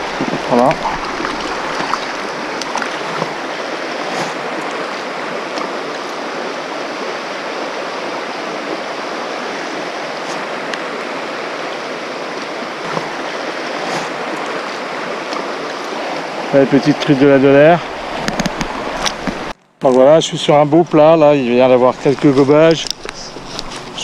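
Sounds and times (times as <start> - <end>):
river rushing over stones: 0.0 - 19.6.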